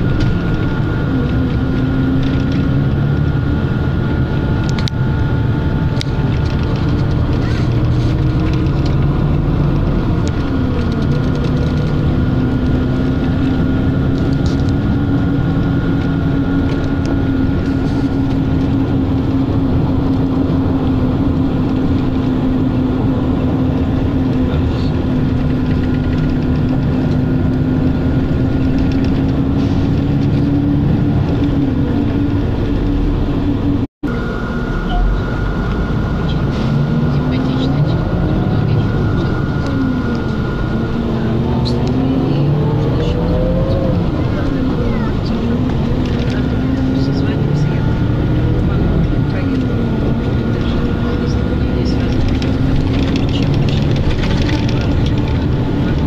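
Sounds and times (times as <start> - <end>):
vehicle running noise from inside: 0.0 - 56.0.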